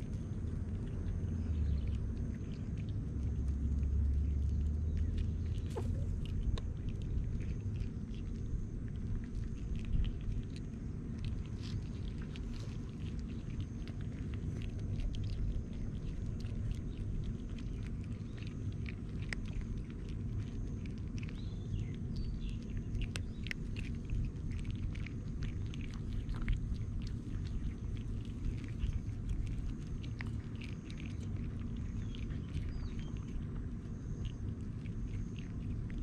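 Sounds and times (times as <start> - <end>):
cats crunching dry kibble: 0.0 - 36.0
steady low rumble: 0.0 - 36.0.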